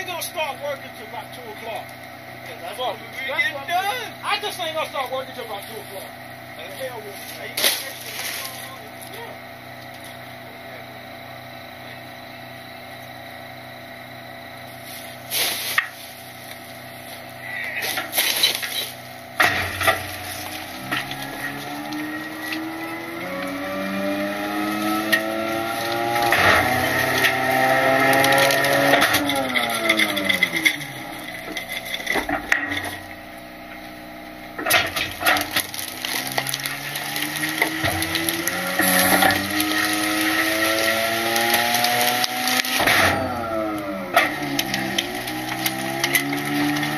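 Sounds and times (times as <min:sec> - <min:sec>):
trash crunching and cracking: 0:00.0 - 0:10.2, 0:13.0 - 0:46.9
garbage truck idling: 0:00.0 - 0:46.9
hydraulic and engine whine: 0:00.0 - 0:46.9.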